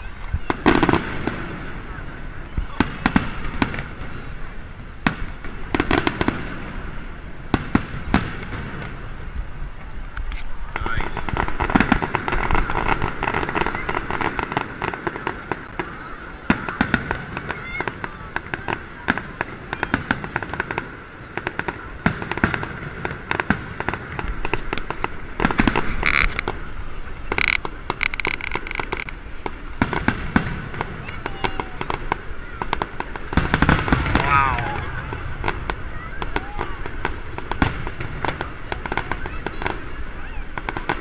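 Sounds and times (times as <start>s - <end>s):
crowd voices: 0.0s - 41.0s
fireworks bangs and crackles: 0.0s - 41.0s.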